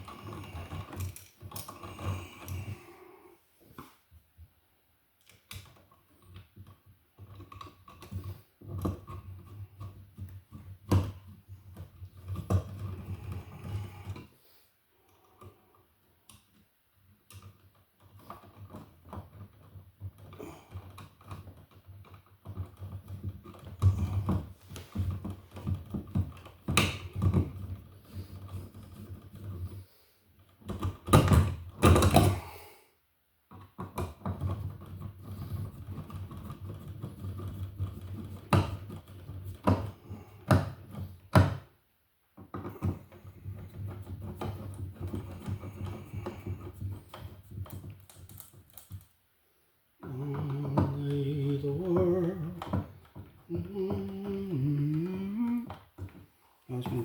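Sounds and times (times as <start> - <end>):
wires clicking and scraping: 0.0 - 4.2, 5.2 - 14.4, 15.0 - 32.5, 33.5 - 41.6, 42.4 - 49.2, 50.0 - 57.0.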